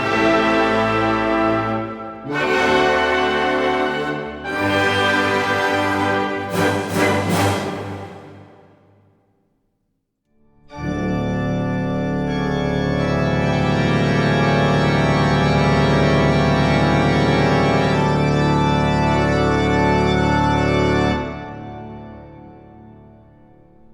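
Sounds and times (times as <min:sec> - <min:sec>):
held organ-like chord: 0:00.0 - 0:08.5, 0:10.7 - 0:22.9.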